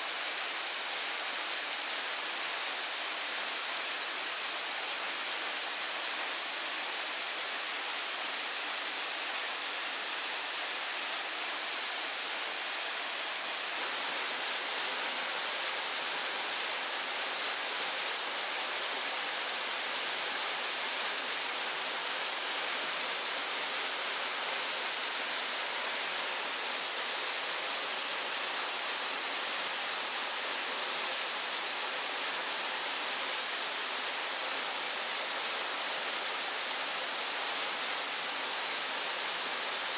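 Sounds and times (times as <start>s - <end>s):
rushing water hiss: 0.0s - 39.9s.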